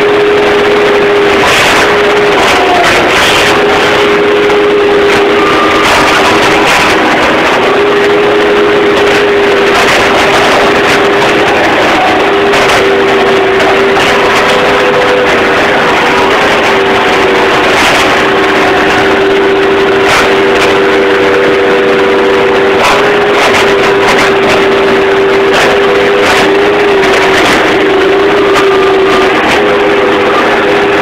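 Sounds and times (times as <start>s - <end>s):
loader engine whining: 0.0s - 31.0s.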